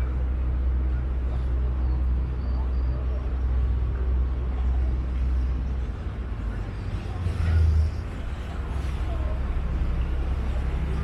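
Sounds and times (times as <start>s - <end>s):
boat engine rumbling: 0.0s - 11.0s
water noise: 0.0s - 11.0s.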